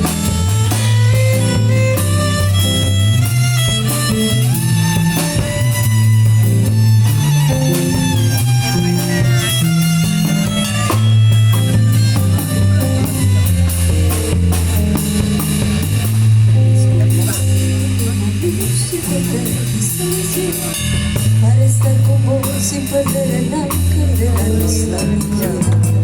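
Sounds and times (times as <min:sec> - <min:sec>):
bass: 0:00.0 - 0:26.0
drums: 0:00.0 - 0:26.0
fiddle line: 0:00.0 - 0:26.0
guitar: 0:00.0 - 0:26.0.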